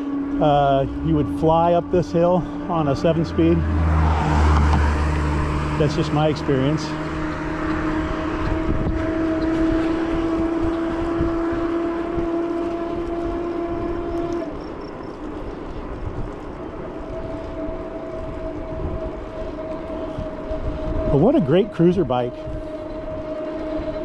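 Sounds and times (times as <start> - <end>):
electric bike motor whining: 0.0 - 24.0
wind rumble on microphone: 0.0 - 24.0.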